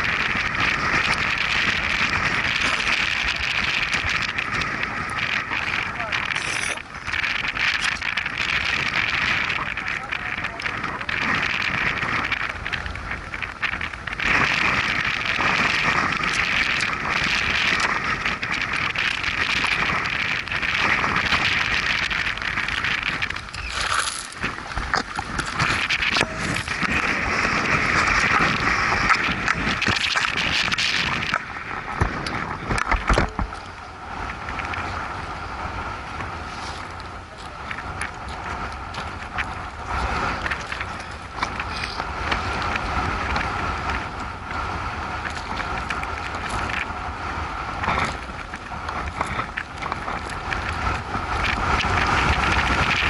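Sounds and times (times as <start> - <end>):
motorcycle engine and road noise: 0.0 - 53.0
rushing wind: 0.0 - 53.0.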